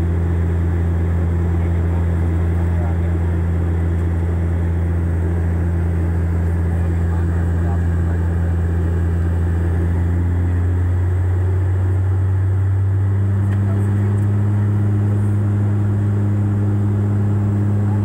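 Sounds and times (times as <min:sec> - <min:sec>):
propeller engine drone: 0:00.0 - 0:18.0.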